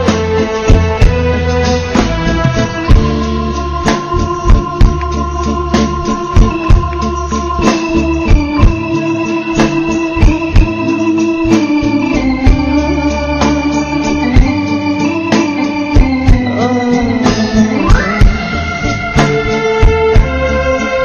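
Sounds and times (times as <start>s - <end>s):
melody of long held notes: 0.0s - 21.0s
regular drum beat: 0.0s - 21.0s.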